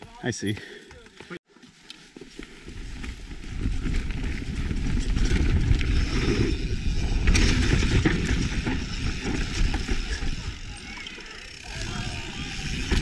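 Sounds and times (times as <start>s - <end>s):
wind and tyres on dirt: 0.0s - 13.0s
bike clicking and rattling: 2.2s - 13.0s.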